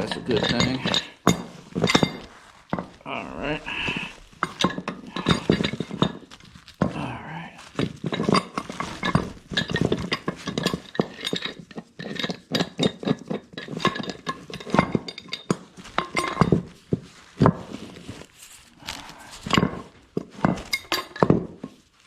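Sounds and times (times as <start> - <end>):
metal pipe fittings clinking: 0.0 - 6.9, 7.7 - 16.8, 17.4 - 21.8.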